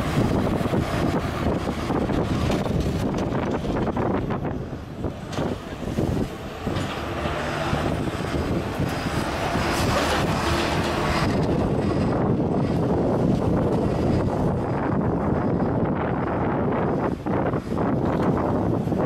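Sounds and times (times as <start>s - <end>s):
excavator diesel engines rumbling: 0.0s - 19.0s.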